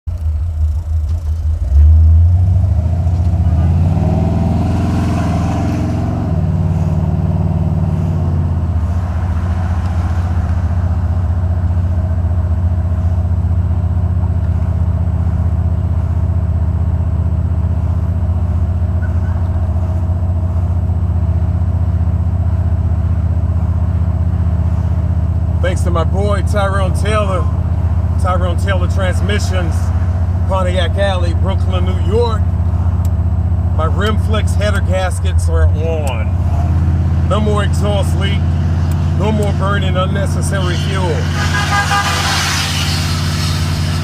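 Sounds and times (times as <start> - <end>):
car engine running: 0.1 - 44.0.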